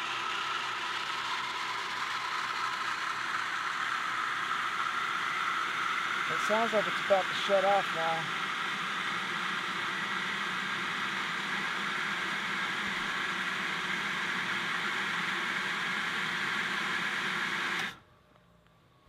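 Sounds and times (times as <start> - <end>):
water pump running: 0.0 - 18.0.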